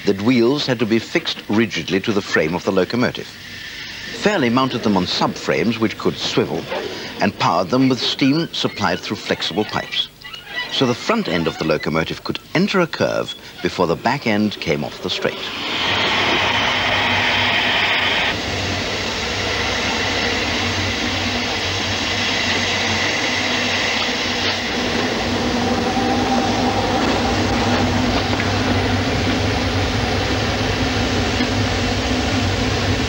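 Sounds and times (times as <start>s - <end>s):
steam hissing: 0.0s - 9.4s, 13.0s - 33.0s
steam locomotive rumble and clatter: 0.0s - 9.6s, 13.0s - 33.0s.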